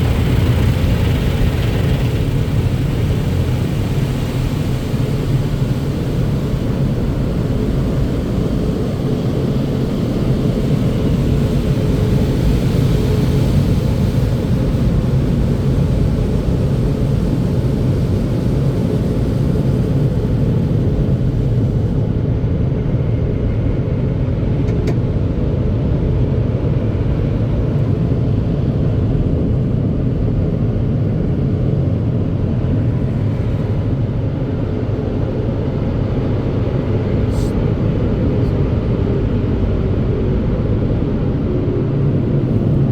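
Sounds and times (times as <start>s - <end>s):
car-wash machinery rumbling: 0.0s - 42.9s.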